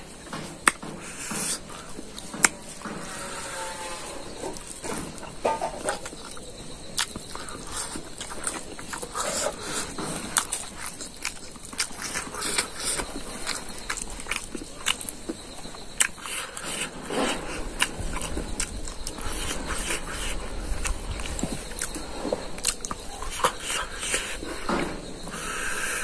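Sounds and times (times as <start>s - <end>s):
wet chewing and lip smacking: 4.5s - 26.0s.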